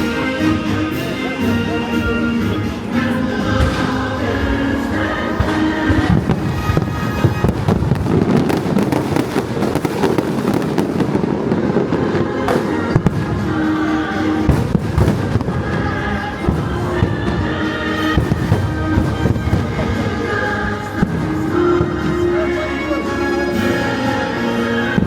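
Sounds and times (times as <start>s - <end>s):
fireworks bangs and crackles: 0.0s - 25.0s
music: 0.0s - 25.0s.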